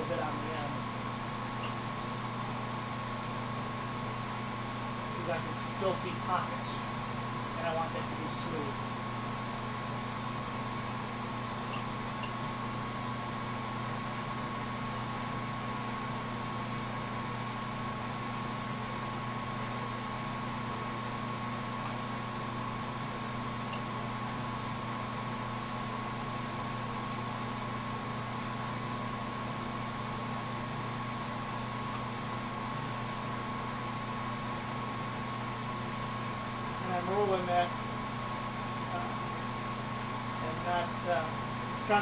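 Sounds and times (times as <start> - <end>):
thin whine of workshop equipment: 0.0 - 42.0.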